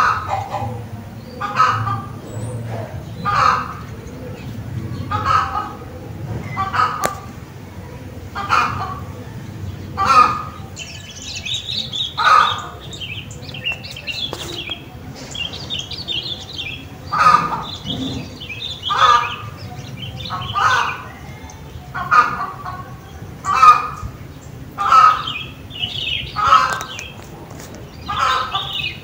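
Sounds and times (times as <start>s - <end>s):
bird calling: 0.0s - 29.0s
small birds twittering: 0.0s - 29.0s.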